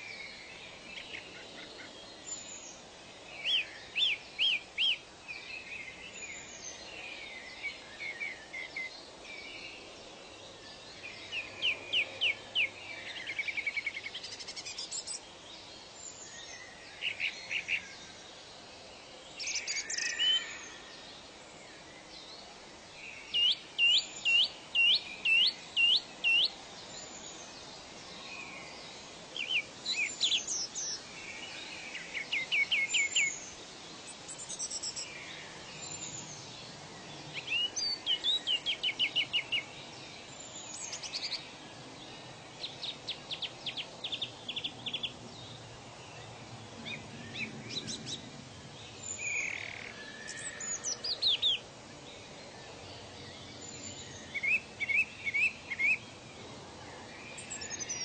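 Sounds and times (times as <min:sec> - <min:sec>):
birds singing: 0:00.0 - 0:58.0
faint background hiss: 0:00.0 - 0:58.0.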